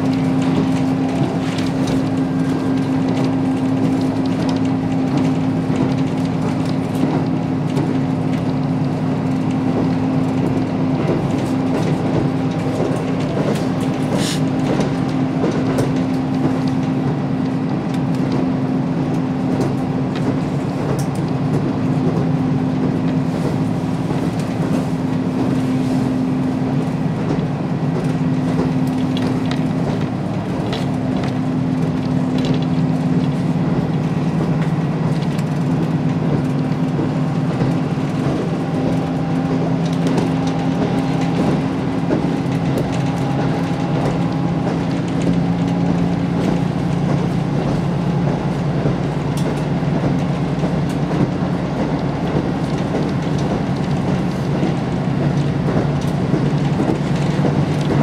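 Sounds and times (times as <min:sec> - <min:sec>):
diesel engine drone: 0:00.0 - 0:58.0
wheel-on-rail rumble: 0:00.0 - 0:58.0.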